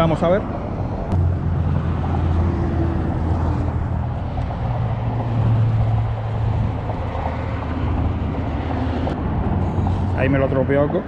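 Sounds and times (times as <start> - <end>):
distant engine drone: 0.0 - 11.0
outdoor background noise: 0.0 - 11.0.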